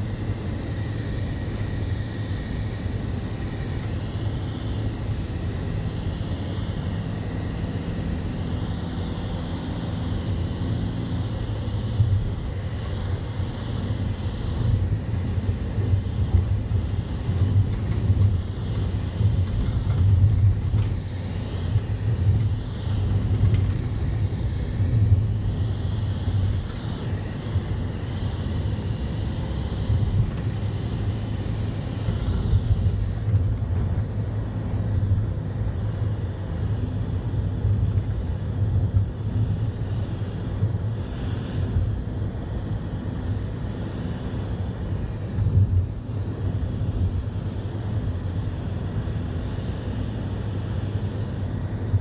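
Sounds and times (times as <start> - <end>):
vehicle engine and tyres rumbling: 0.0 - 52.0.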